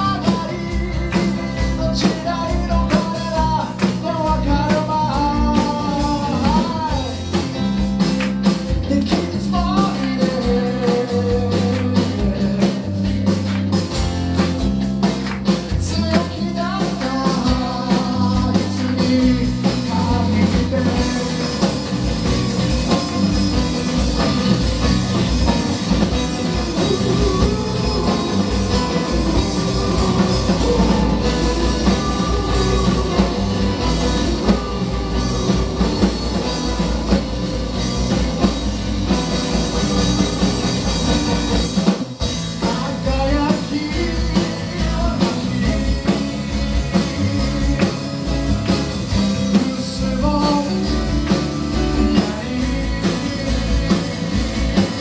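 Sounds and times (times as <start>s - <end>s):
man singing: 0.0s - 7.7s, 8.4s - 13.8s, 15.4s - 22.1s, 24.8s - 37.3s, 42.4s - 55.0s
rock band playing: 0.0s - 55.0s.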